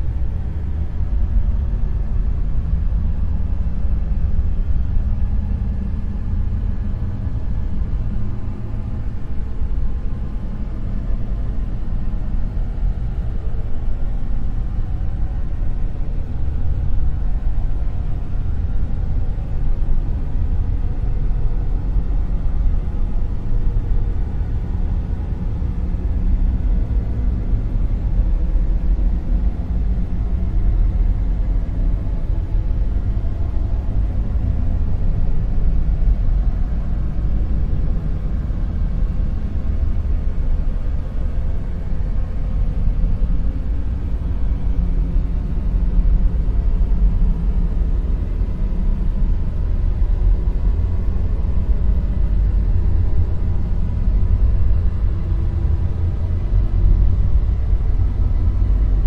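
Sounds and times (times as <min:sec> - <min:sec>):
deep rumbling hiss: 0:00.0 - 0:59.0.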